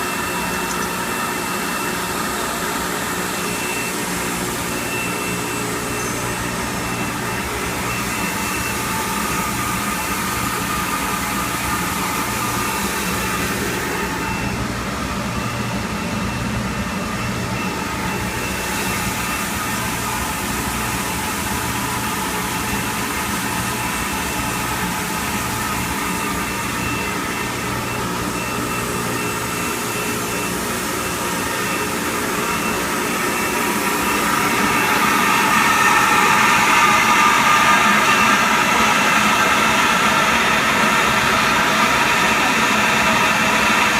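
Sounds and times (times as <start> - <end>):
parts washer machine drone: 0.0 - 43.9.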